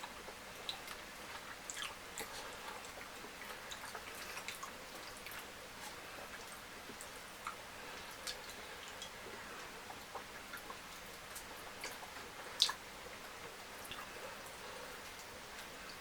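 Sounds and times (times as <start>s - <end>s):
wet eating sounds: 0.0s - 16.0s.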